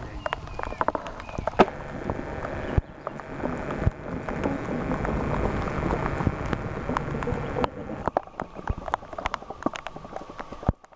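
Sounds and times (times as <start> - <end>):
sharp clicks: 0.2 - 10.9.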